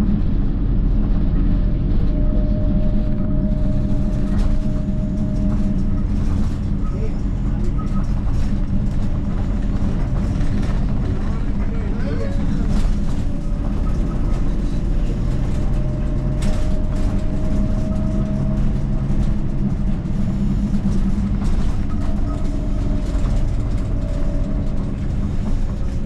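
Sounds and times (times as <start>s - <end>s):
bus engine low rumble: 0.0s - 26.0s
faint engine whine: 0.0s - 26.0s.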